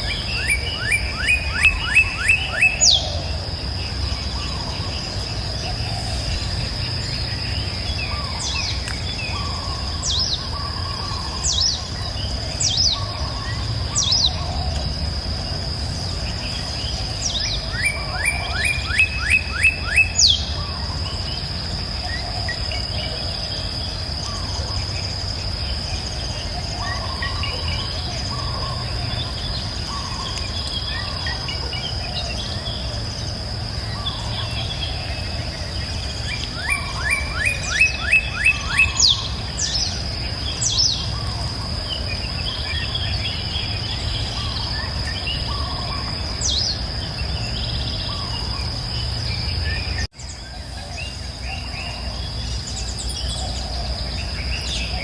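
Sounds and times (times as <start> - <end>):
bird chirps: 0.0 - 14.9, 16.1 - 55.0.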